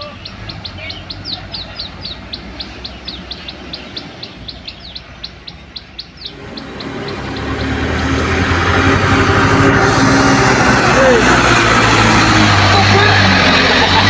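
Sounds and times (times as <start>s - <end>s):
bird chirping rapidly: 0.0s - 11.3s
dump truck engine: 0.0s - 14.0s.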